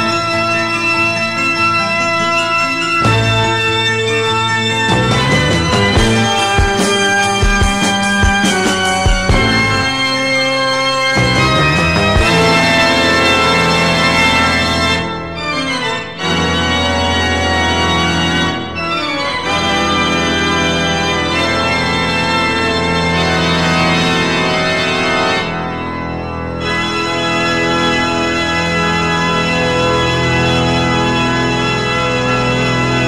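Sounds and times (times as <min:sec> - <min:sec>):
organ playing held chords: 0:00.0 - 0:33.0.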